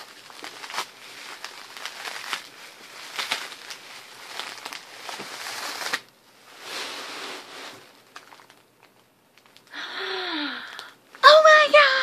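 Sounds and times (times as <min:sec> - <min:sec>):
gift wrapping crinkling: 0:00.0 - 0:12.0.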